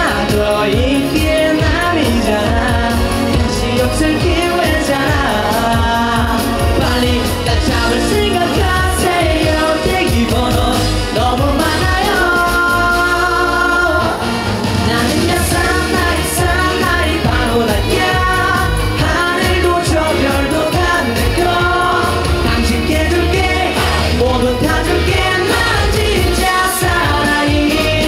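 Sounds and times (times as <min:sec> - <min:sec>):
loud dance-pop song: 0:00.0 - 0:28.0.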